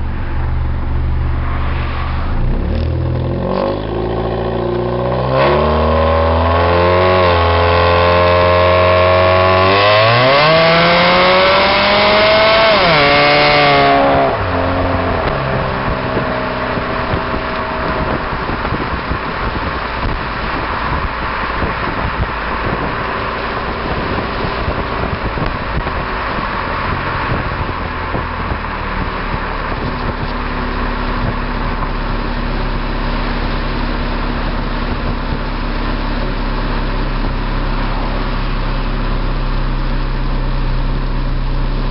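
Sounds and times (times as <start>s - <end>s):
wind noise: 0.0s - 40.0s
car exhaust under acceleration: 0.0s - 41.9s
road noise: 0.0s - 41.9s.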